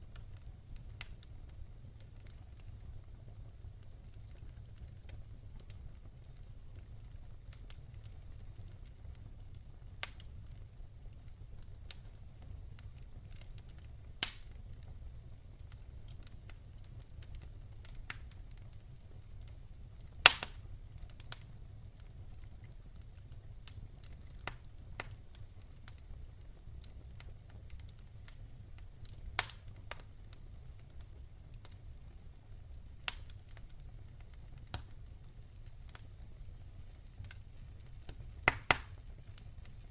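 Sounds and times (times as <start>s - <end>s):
campfire burning: 0.0s - 39.9s
crackles and pops: 0.0s - 39.9s.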